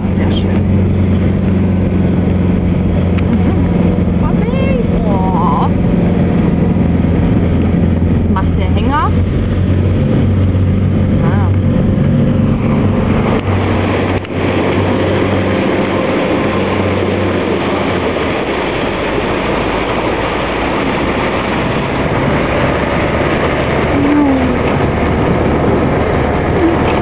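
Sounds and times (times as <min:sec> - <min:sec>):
rush of water tyres and wind: 0:00.0 - 0:27.0
van engine hum: 0:00.0 - 0:27.0.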